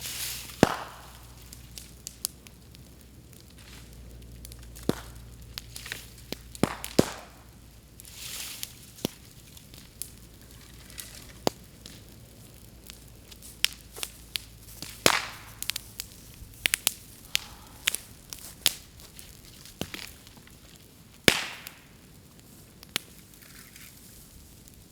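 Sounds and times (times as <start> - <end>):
bamboo sections bursting: 0.0 - 2.4, 3.4 - 24.2
bamboo crackling in bonfire: 0.0 - 24.9.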